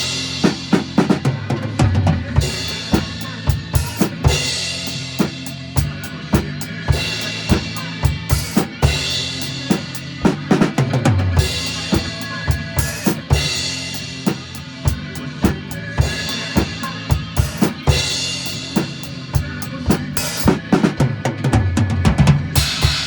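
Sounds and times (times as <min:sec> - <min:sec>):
drum kit beat: 0:00.0 - 0:23.0
recorded music accompaniment: 0:00.0 - 0:23.0.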